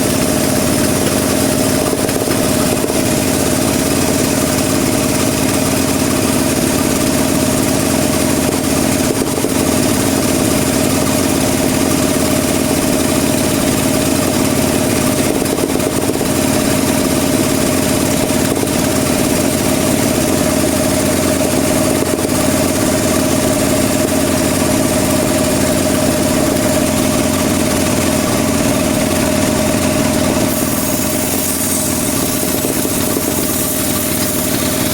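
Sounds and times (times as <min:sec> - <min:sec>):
bandsaw droning: 0:00.0 - 0:34.9.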